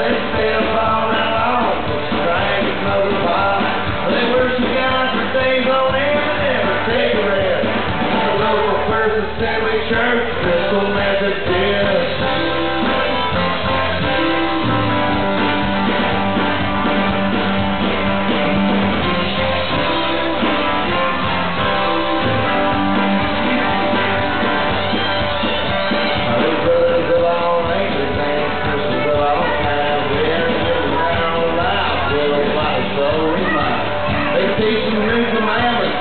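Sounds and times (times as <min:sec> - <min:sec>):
acoustic guitar strumming: 0:00.0 - 0:36.0
drums: 0:00.0 - 0:36.0.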